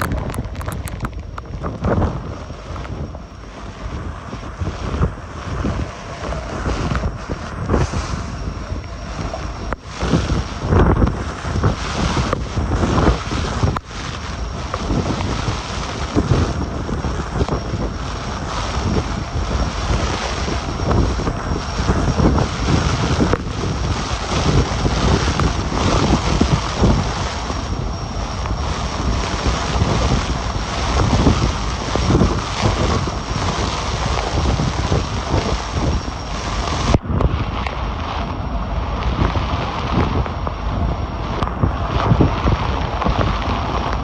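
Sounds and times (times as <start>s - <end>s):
heavy rain hiss: 0.0s - 44.0s
wind gusts buffeting microphone: 0.0s - 44.0s.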